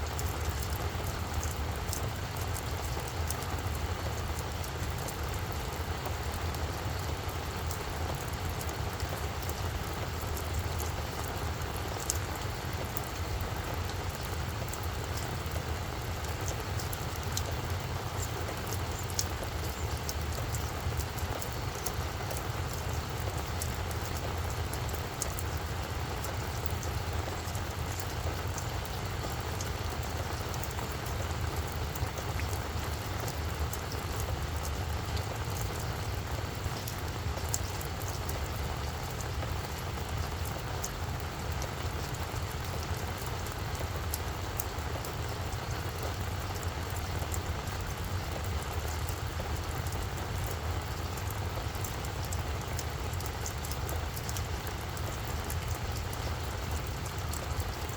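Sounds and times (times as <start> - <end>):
rain pattering: 0.0 - 57.9
sharp drip ticks: 0.0 - 57.9.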